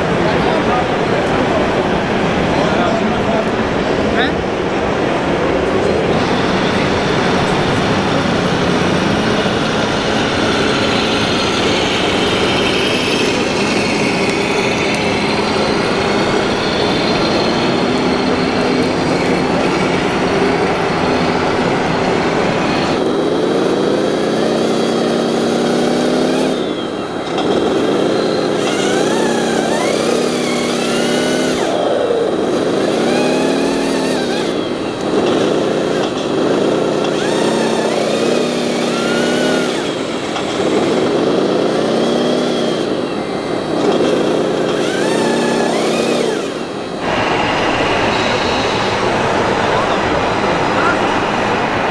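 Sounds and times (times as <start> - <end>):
dense mechanical noise: 0.0 - 51.9
motor rising and falling in pitch: 0.0 - 51.9.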